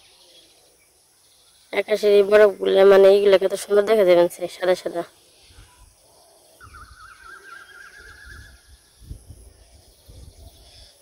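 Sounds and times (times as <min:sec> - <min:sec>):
bird warbling trill: 0:01.4 - 0:11.0.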